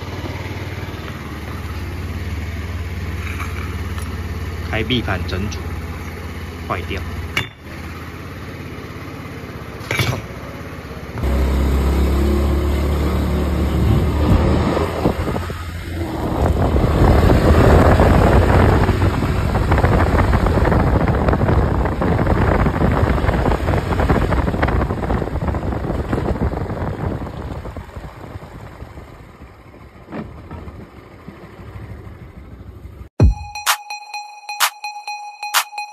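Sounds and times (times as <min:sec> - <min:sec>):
scooter engine running: 0:00.0 - 0:33.2.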